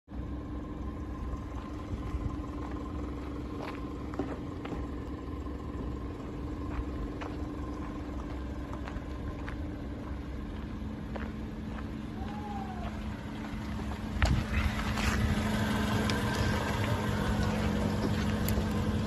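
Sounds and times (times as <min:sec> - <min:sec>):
engine idling: 0:00.1 - 0:19.0.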